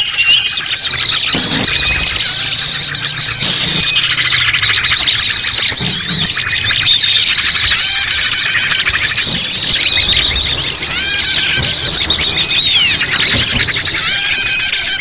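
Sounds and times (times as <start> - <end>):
chorus of small birds chirping: 0.0 - 15.0.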